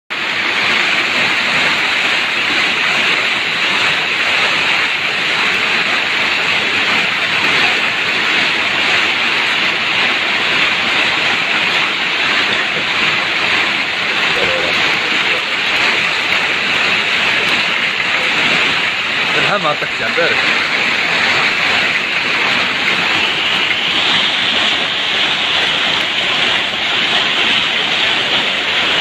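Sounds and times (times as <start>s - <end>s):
torrential rain pouring: 0.1s - 29.0s.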